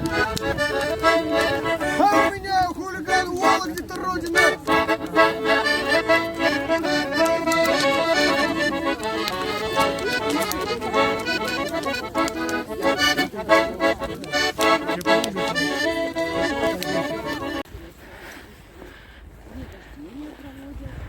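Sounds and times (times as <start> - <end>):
button accordion folk dance tune: 0.0 - 17.7.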